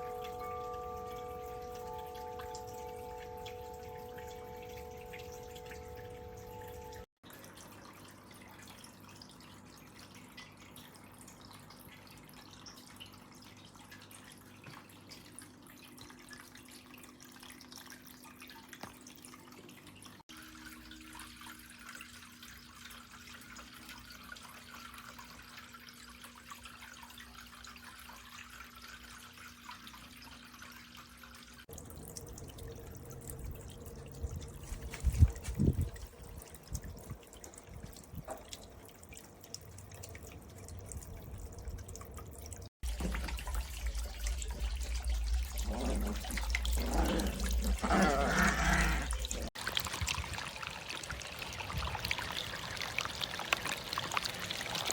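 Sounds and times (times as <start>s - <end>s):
water fountain trickling and dripping: 0.0s - 54.9s.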